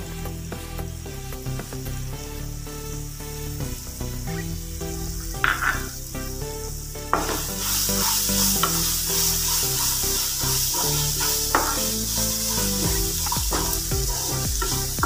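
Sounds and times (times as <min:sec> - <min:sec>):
food sizzling in hot oil: 0:00.6 - 0:15.0.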